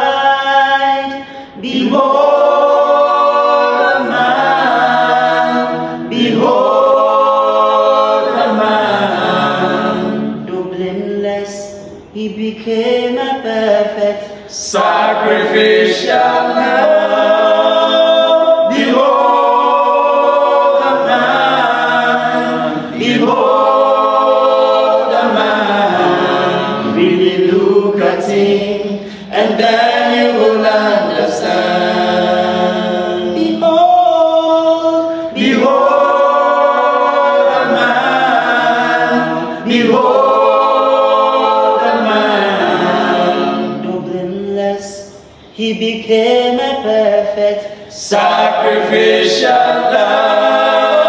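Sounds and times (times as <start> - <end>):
male vocal group singing harmony: 0.0 - 51.0.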